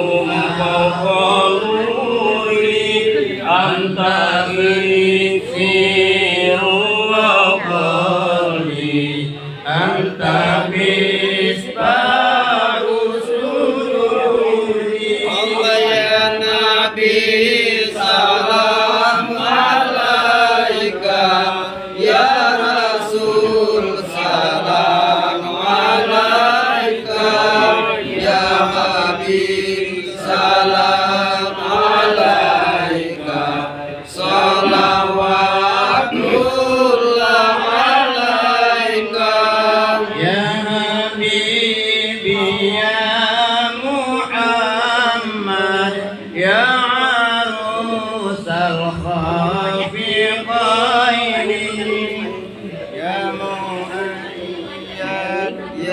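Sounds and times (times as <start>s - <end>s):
men chanting devotional song: 0.0s - 55.9s.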